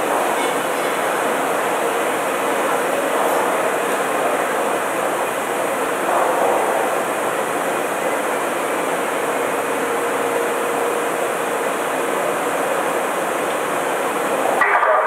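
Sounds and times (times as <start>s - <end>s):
steady machinery noise: 0.0s - 15.0s.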